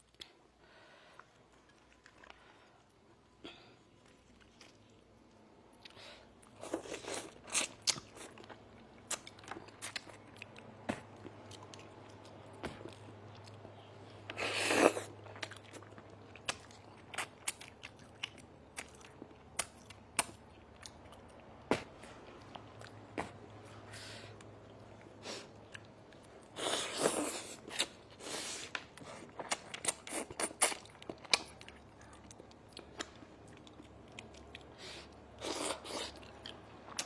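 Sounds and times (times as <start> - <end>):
person chewing and crunching food: 1.0 - 37.0.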